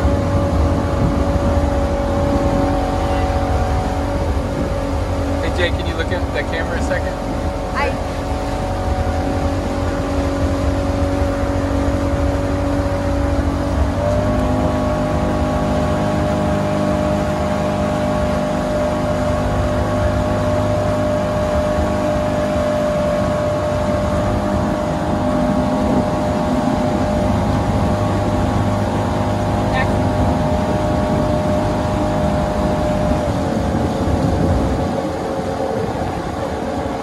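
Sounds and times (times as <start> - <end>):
jet boat engine running: 0.0 - 37.0
rush of wind and water: 0.0 - 37.0.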